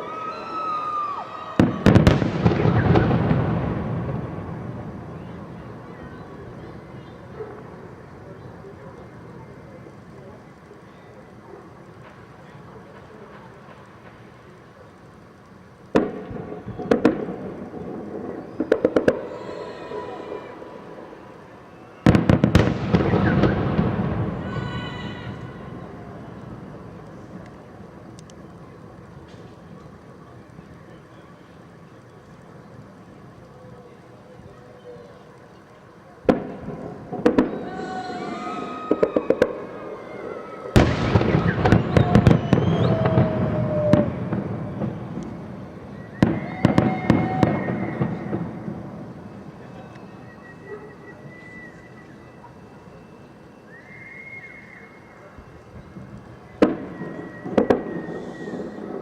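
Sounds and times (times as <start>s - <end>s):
firework crackling: 0.0s - 59.0s
firework bangs: 1.0s - 30.8s, 36.2s - 50.6s, 55.8s - 59.0s
rolling rumble: 1.6s - 19.3s, 20.0s - 50.7s
continuous firework booming: 1.6s - 53.6s, 55.2s - 59.0s.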